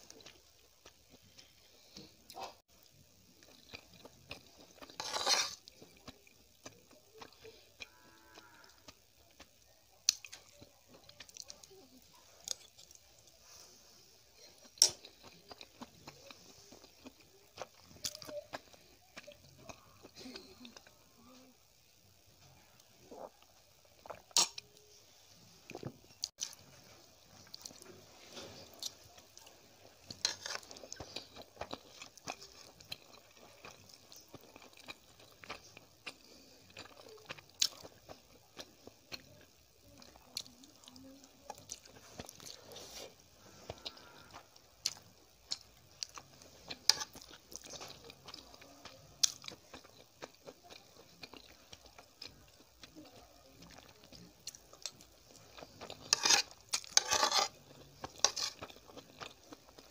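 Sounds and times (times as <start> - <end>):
person chewing noodles: 3.4 - 11.7, 14.6 - 21.0, 25.8 - 59.9.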